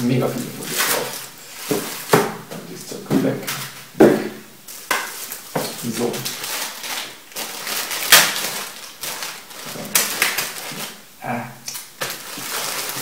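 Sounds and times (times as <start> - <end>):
plastic bag crinkling: 0.0 - 11.1, 11.7 - 13.0.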